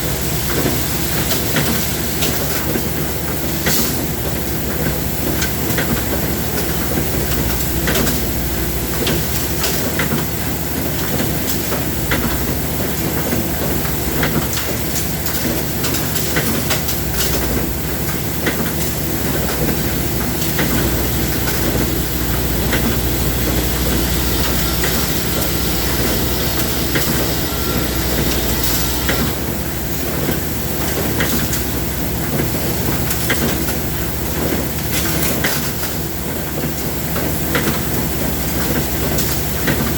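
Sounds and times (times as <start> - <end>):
machinery running: 0.0 - 35.2.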